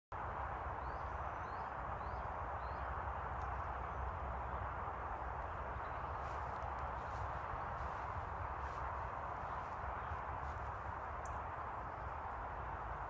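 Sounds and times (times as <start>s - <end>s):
outdoor hiss with low rumble: 0.2s - 13.0s.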